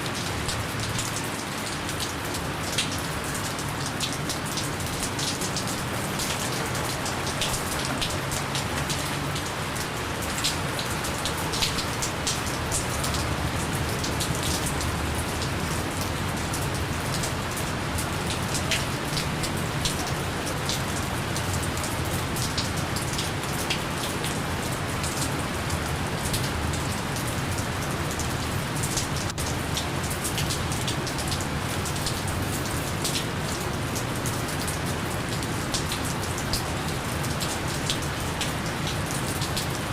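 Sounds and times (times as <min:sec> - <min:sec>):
hiss of rainfall: 0:00.0 - 0:39.9
raindrops pattering: 0:00.0 - 0:39.9.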